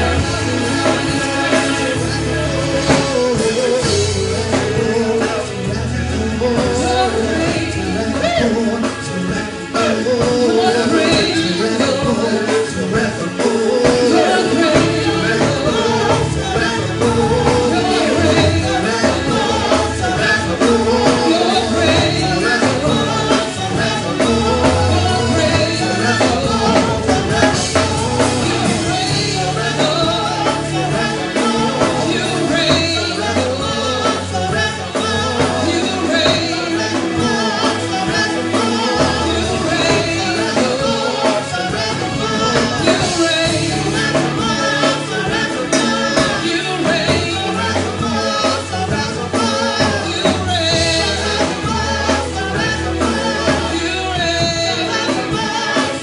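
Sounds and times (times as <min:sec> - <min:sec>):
band with drums and bass: 0:00.0 - 0:56.0
people singing worship music: 0:00.0 - 0:56.0.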